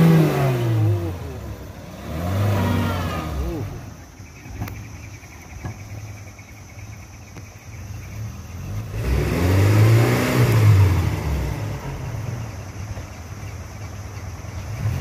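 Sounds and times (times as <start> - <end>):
engine revving under load: 0.0 - 4.9, 7.9 - 15.0.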